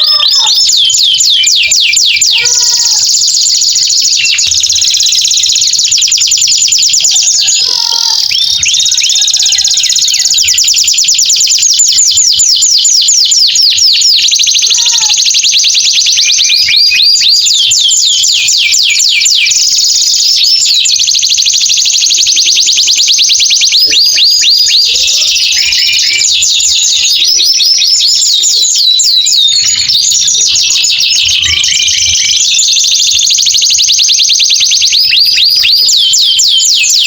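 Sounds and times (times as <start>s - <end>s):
canary singing fast trills: 0.0s - 37.0s.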